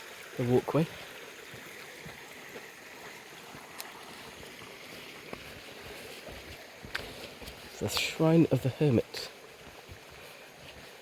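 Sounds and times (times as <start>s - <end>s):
stream running: 0.0s - 11.0s.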